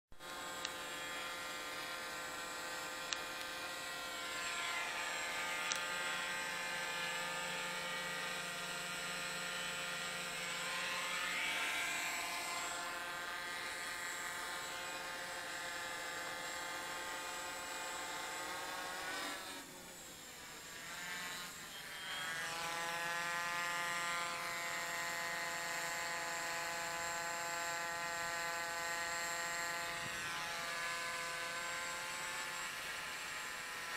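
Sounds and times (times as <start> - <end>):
drone propellers buzzing: 0.2 - 33.9.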